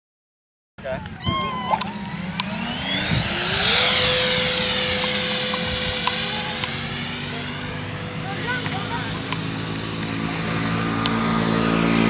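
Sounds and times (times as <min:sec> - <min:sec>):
electric motor whine: 0:01.1 - 0:12.0.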